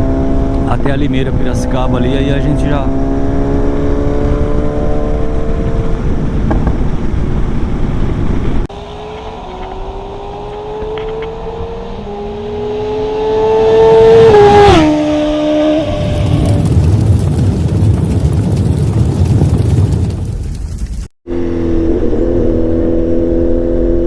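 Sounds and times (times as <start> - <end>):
motorcycle engine revving: 0.0 - 16.7, 21.2 - 24.0
low wind rumble: 0.0 - 24.0.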